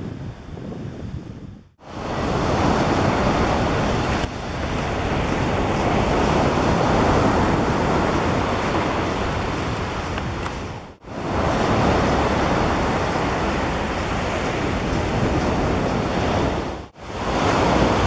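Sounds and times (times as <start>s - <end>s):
wind buffeting microphone: 0.0s - 18.0s
surf rushing: 1.8s - 18.0s.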